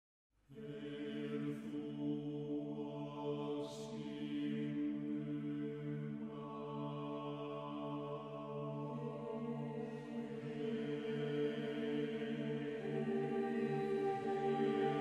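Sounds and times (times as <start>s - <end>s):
choir singing unaccompanied: 0.5s - 15.0s.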